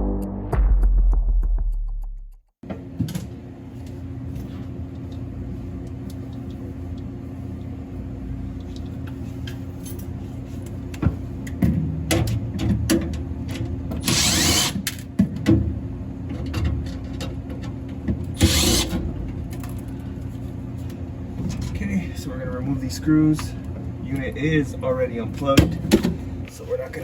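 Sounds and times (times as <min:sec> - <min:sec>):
machinery hum: 0:02.7 - 0:27.0.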